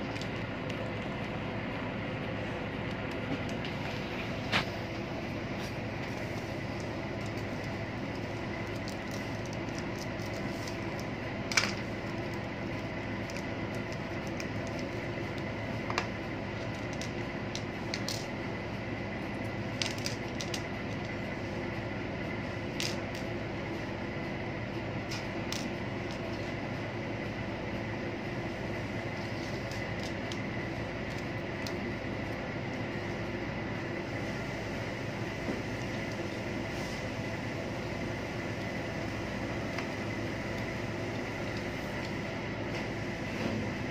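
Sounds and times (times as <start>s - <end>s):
machinery hum with high whine: 0.0s - 43.9s.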